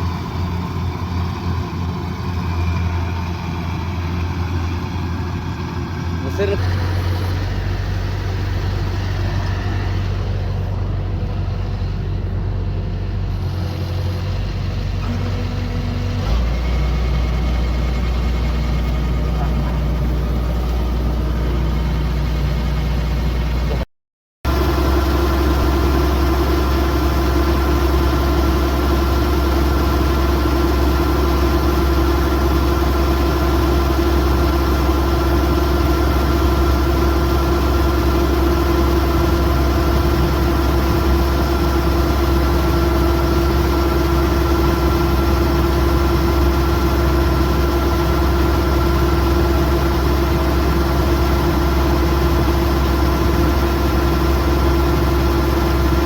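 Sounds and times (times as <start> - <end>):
combine harvester engine running: 0.0 - 23.9, 24.5 - 56.0.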